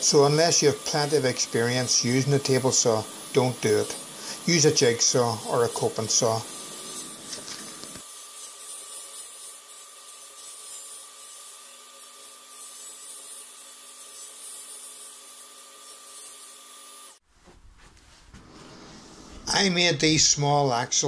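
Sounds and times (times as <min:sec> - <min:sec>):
saw blade rasping wood: 0:00.0 - 0:17.1
table saw whining: 0:00.0 - 0:17.2.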